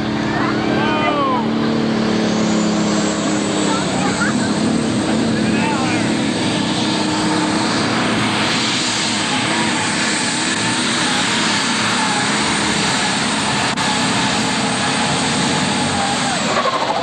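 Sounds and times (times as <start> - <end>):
diesel engine running loud: 0.0 - 17.0.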